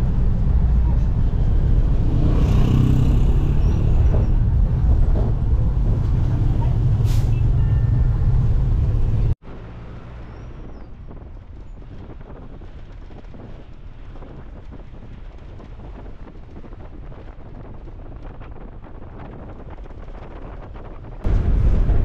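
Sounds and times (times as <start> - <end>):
engine and road rumble: 0.0 - 22.0
wind noise: 0.0 - 22.0.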